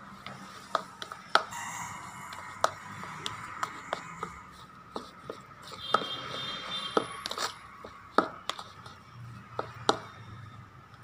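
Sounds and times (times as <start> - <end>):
spoon scraping plastic bowl: 0.1 - 10.3.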